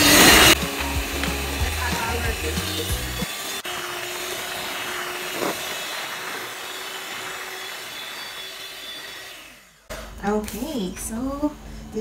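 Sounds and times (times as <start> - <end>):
electric hand mixer whisking: 0.0 - 9.9.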